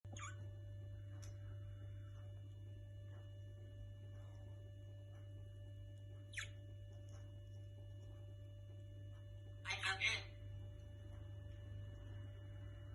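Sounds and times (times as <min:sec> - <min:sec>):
steady low hum: 0:00.1 - 0:12.9.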